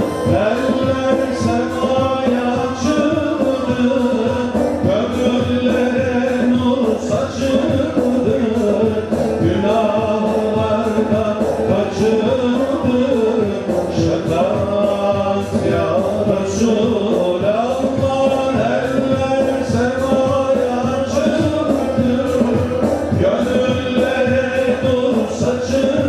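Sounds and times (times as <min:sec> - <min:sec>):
men singing a hymn: 0:00.0 - 0:26.0
steady drum beat: 0:00.0 - 0:26.0.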